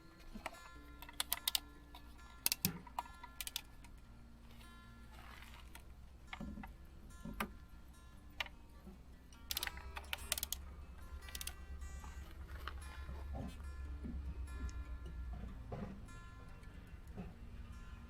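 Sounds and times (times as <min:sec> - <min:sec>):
quiet background music: 0:00.0 - 0:18.0.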